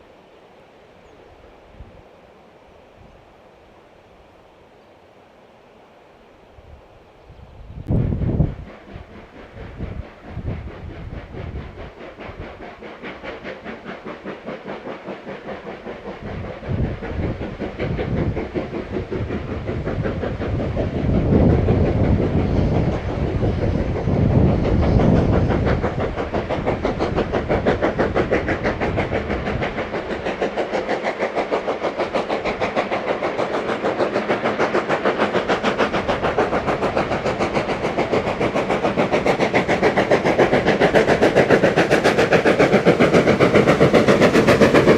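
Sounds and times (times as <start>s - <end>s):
steam locomotive exhaust beats: 7.5s - 44.9s.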